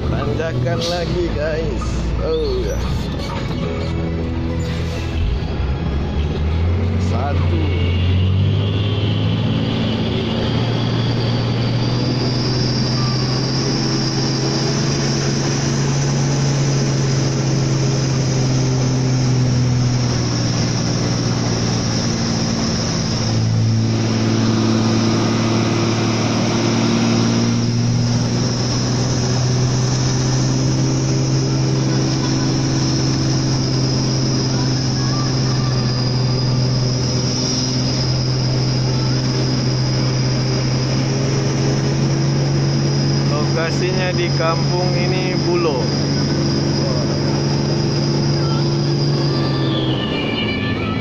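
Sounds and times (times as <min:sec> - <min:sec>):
road and cab noise: 0:00.0 - 0:51.0
truck diesel engine pulling: 0:00.0 - 0:51.0.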